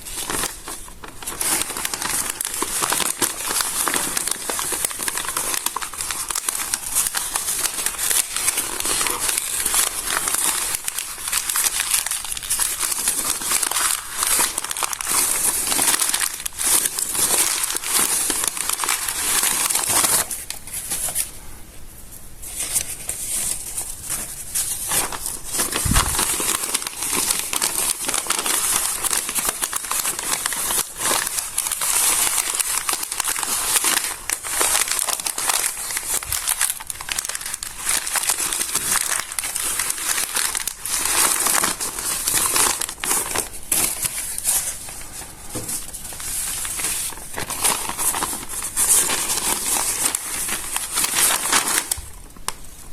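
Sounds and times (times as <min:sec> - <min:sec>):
stiff paper crinkling: 0:00.0 - 0:21.5, 0:22.4 - 0:52.9.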